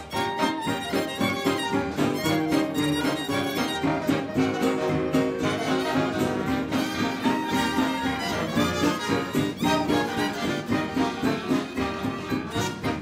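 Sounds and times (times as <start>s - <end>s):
big band swing music: 0.0s - 13.0s.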